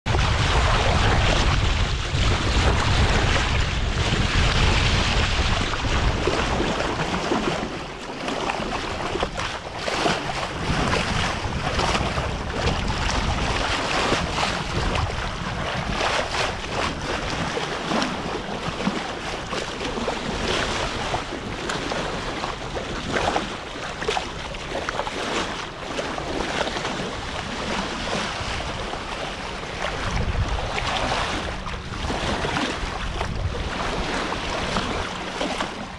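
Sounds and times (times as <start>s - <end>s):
bow wave splashing along hull: 0.0s - 35.9s
wind rumbling on microphone: 0.0s - 35.9s.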